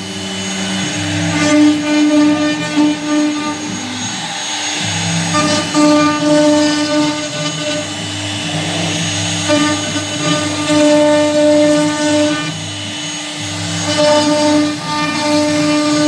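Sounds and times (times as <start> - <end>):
cnc router machine whine: 0.0 - 16.0.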